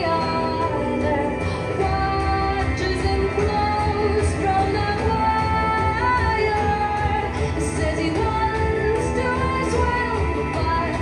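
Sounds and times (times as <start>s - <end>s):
woman singing over dance music: 0.0s - 11.0s.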